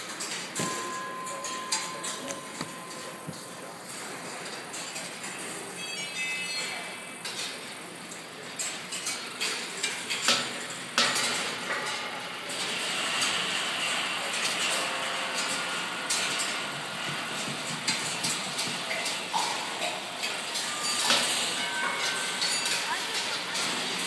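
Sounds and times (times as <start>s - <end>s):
balls rolling on wire tracks: 0.0s - 24.0s.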